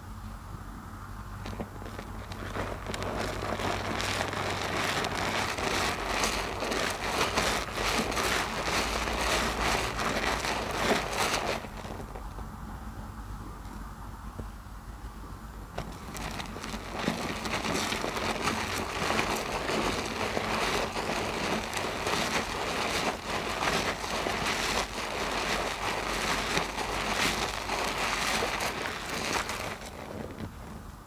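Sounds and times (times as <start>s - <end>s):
loofah squelching in soap foam: 1.9s - 12.1s, 15.8s - 30.6s.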